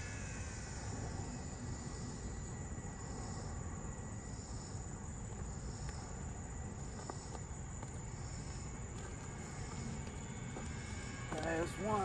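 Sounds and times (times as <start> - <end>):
low outdoor rumble: 0.0 - 12.0
soft rhythmic pulse: 0.0 - 12.0
insects singing: 0.7 - 12.0.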